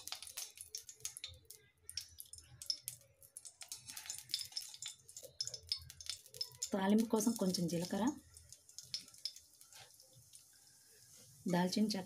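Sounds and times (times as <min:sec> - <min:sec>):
cooking oil crackling: 0:00.0 - 0:12.0.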